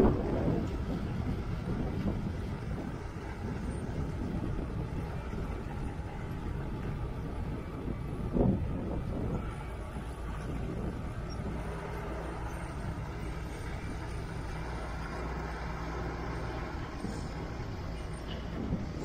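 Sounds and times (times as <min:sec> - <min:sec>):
heavy machinery engine rumble: 0:00.0 - 0:19.0.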